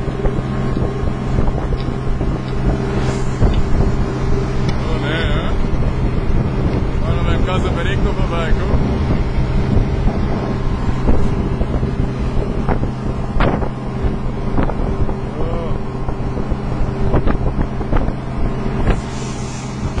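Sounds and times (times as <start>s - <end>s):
boat diesel engine hum: 0.0s - 20.0s
water rushing along hull: 0.0s - 20.0s
wind on microphone: 0.0s - 20.0s.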